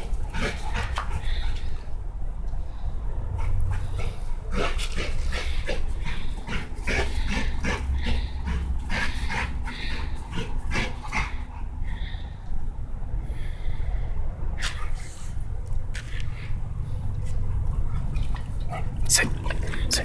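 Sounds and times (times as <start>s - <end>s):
dog breathing hard in huffs: 0.0s - 20.0s.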